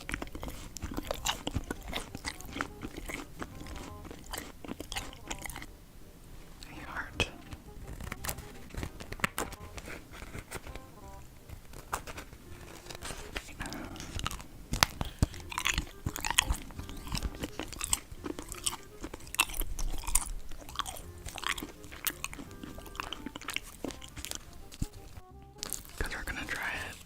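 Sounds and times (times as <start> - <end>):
person chewing crunchy food: 0.0 - 5.8, 6.4 - 27.0.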